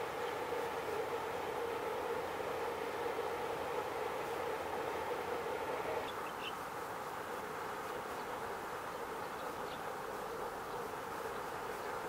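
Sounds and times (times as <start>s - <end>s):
outdoor background hum and hiss: 0.0s - 12.0s.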